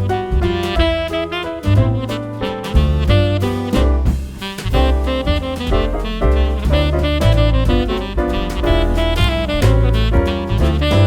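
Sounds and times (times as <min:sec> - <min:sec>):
upbeat jazz with saxophone: 0:00.0 - 0:11.0.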